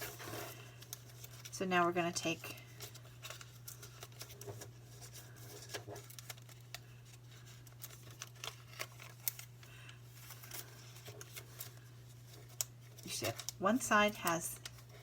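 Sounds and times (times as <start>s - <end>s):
paper crinkling and folding: 0.0s - 15.0s.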